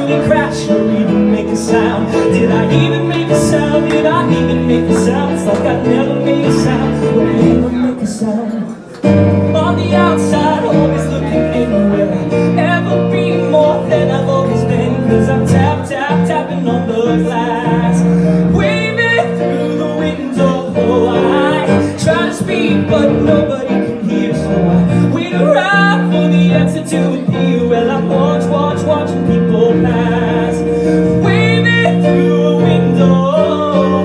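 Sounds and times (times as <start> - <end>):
grand piano: 0.0 - 34.0
man singing into a microphone: 0.0 - 34.0.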